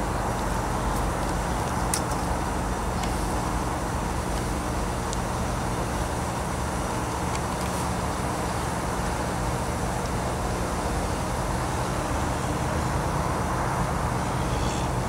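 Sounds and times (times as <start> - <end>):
diesel locomotive engine droning: 0.0 - 15.0.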